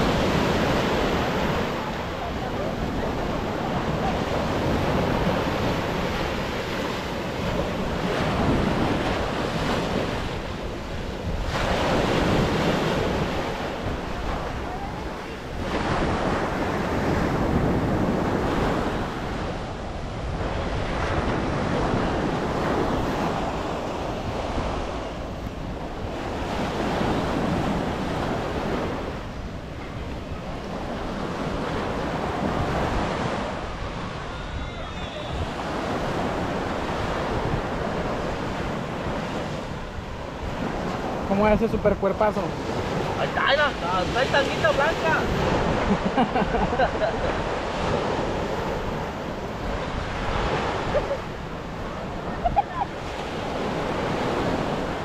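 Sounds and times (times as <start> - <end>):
ocean surf breaking: 0.0 - 55.0
wind rumbling on microphone: 0.0 - 55.0.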